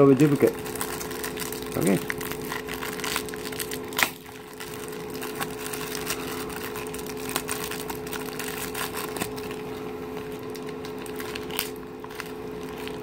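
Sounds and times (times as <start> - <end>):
steady low hum: 0.0 - 13.0
wrapper crinkling: 0.0 - 13.0.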